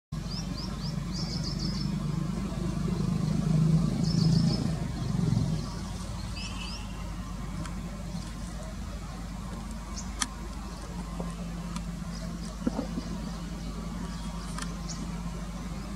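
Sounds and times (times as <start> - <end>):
birds chirping: 0.2 - 15.9
diesel locomotives chugging: 0.2 - 15.9.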